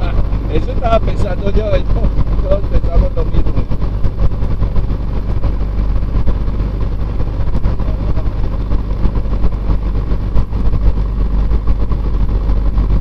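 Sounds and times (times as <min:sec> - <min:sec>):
airplane engine idling: 0:00.0 - 0:13.0.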